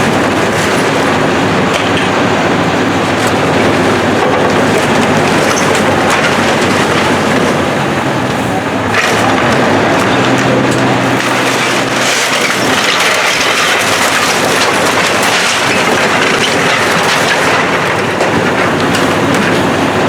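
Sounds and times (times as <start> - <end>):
debris crunching and clattering: 0.0 - 20.0.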